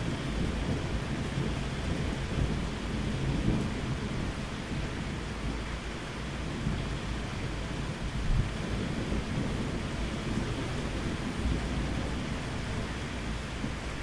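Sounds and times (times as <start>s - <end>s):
low thunder rumbling: 0.0s - 14.0s
steady rain: 0.0s - 14.0s.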